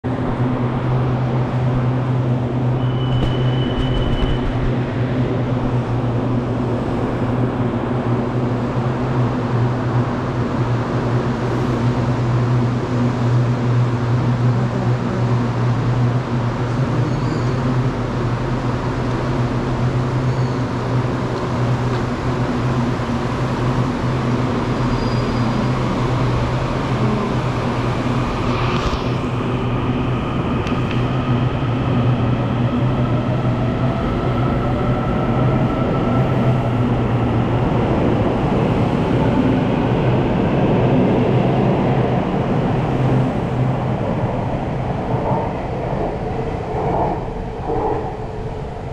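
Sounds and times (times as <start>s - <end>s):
electric train humming: 0.1s - 48.9s.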